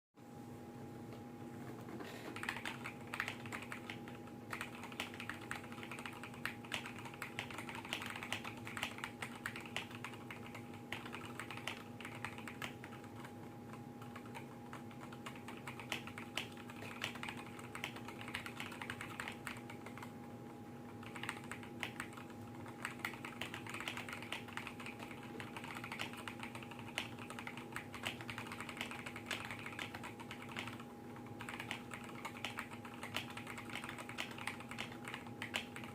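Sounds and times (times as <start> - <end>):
steady hum: 0.2 - 35.9
mechanical keyboard typing: 2.3 - 20.2, 20.8 - 35.9.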